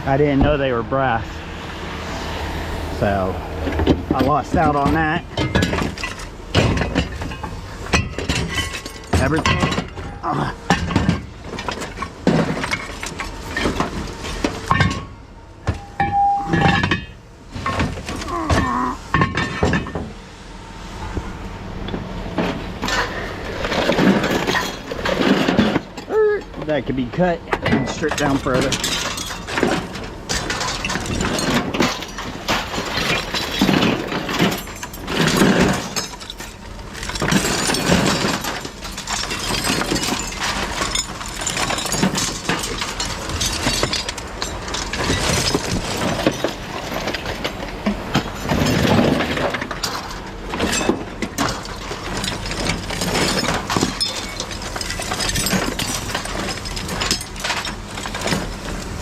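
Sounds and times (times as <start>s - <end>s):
scrap metal clattering: 3.0s - 20.2s, 22.3s - 59.0s.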